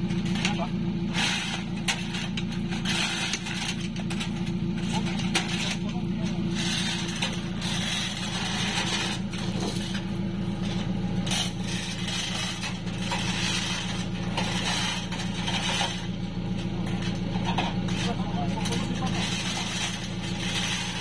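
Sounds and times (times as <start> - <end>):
engine idling: 0.0 - 21.0
metallic scraping and clattering: 0.0 - 21.0.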